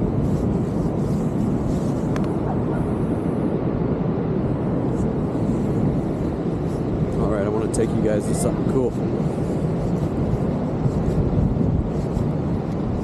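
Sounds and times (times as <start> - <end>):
ocean surf rumbling: 0.0 - 13.0.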